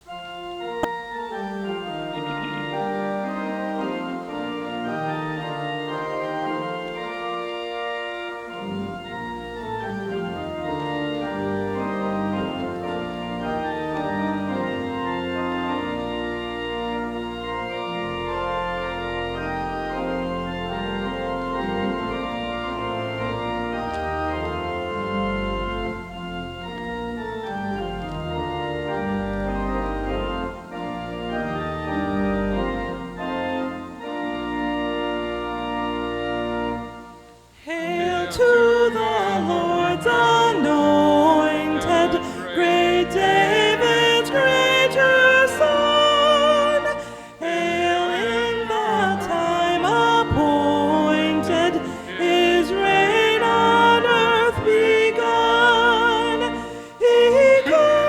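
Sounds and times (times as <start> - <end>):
organ bass pedal notes: 0.0 - 58.0
organ chords: 0.0 - 58.0.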